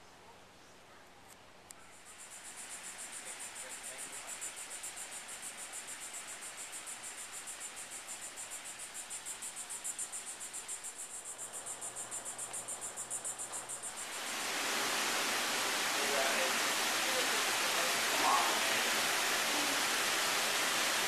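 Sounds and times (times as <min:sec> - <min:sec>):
faint outdoor hiss: 0:00.0 - 0:21.0
insects pulsing chorus: 0:01.9 - 0:21.0.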